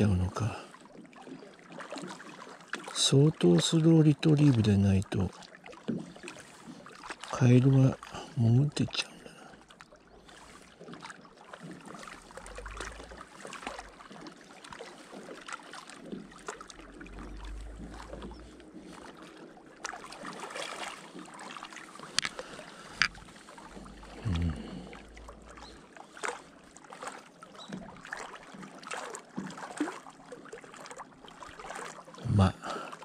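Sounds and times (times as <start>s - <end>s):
water lapping at shore: 0.0s - 33.0s.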